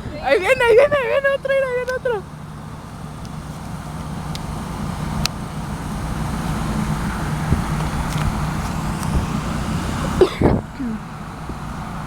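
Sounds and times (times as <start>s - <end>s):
semi truck engine: 0.0s - 12.0s
tyre noise on road: 0.0s - 12.0s.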